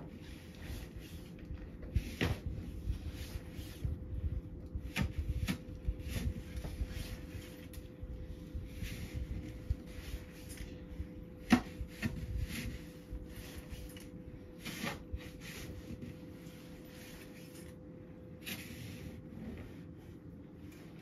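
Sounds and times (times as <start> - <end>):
faint steady hum: 0.0 - 21.0
scraping and rubbing: 0.0 - 21.0.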